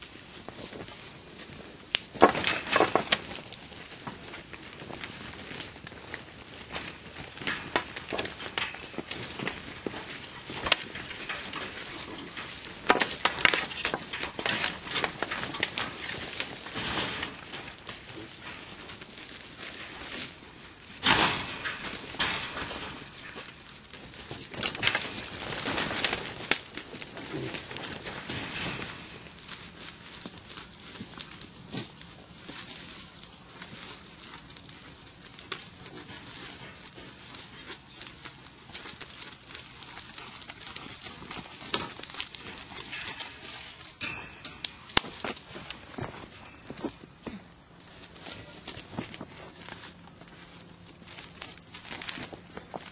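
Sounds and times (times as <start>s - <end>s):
hooves scuffling on dirt: 0.0s - 52.9s
plastic sheet crinkling: 0.0s - 52.9s.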